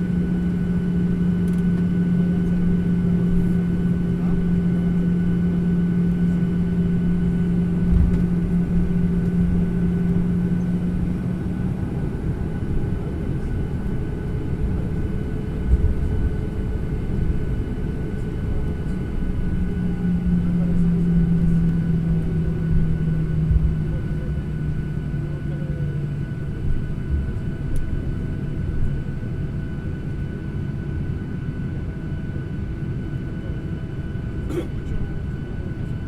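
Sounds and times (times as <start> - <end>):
low hum: 0.0 - 29.0
airliner cabin drone: 0.0 - 36.0.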